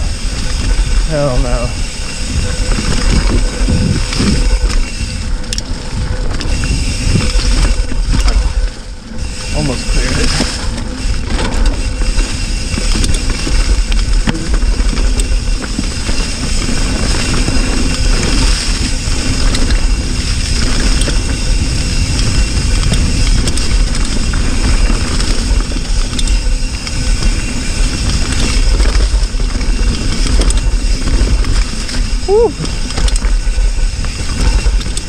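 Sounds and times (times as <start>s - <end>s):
bike clicks and rattles: 0.0s - 35.0s
bike tyres rolling over dirt: 0.0s - 35.0s
wind buffeting microphone: 0.0s - 35.0s.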